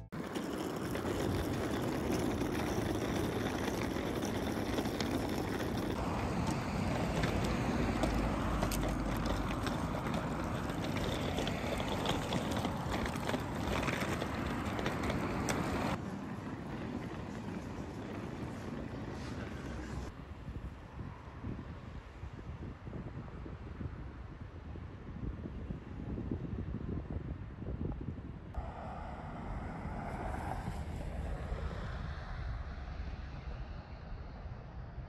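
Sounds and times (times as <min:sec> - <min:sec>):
traffic rumble: 0:00.0 - 0:22.6, 0:28.5 - 0:35.0
wind buffeting the microphone: 0:00.7 - 0:35.0.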